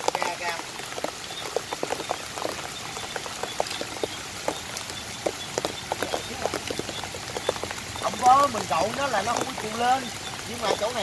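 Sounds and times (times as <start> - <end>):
rain falling on wet ground: 0.0 - 11.0
water dripping: 0.0 - 11.0.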